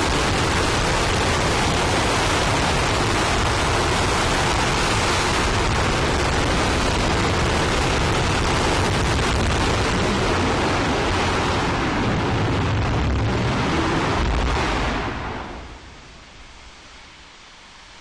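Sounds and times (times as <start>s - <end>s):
rocket engine exhaust roar: 0.0s - 17.7s.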